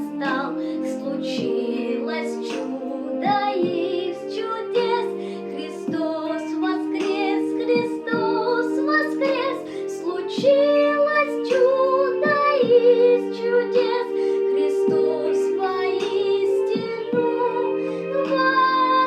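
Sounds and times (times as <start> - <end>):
instrumental held chords: 0.0 - 19.0.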